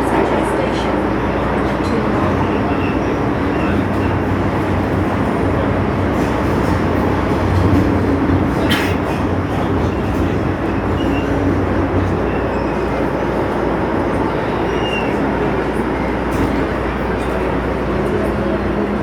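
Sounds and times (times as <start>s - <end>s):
train interior rumble: 0.0s - 19.0s.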